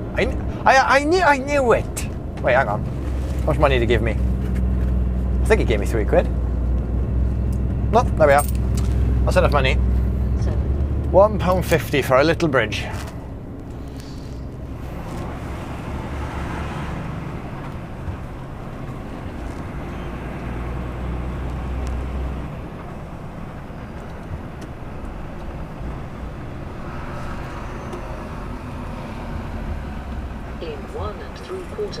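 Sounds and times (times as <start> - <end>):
lorry diesel engine running: 0.0 - 32.0
road noise: 0.0 - 32.0.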